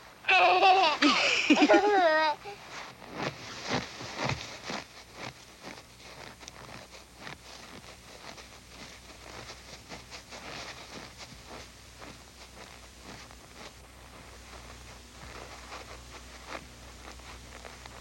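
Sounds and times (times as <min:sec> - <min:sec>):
footsteps crunching in snow: 0:00.0 - 0:18.0.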